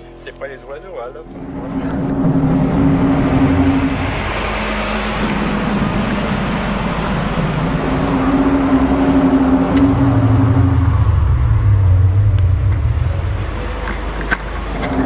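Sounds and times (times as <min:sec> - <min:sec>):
rumbling hiss: 0:00.0 - 0:15.0
loud droning tones stepping in pitch: 0:01.0 - 0:15.0.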